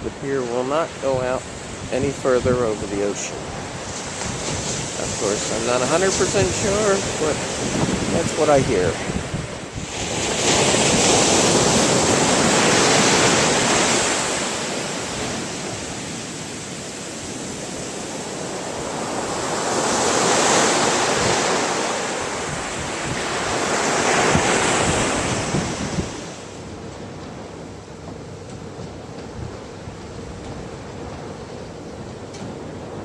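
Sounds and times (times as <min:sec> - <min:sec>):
wind on microphone: 0:00.0 - 0:27.2
ocean surf breaking: 0:00.0 - 0:33.0.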